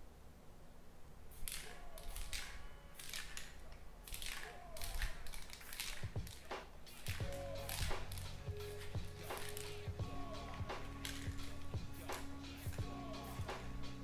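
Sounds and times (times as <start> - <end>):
spray paint can hissing: 1.3 - 14.0.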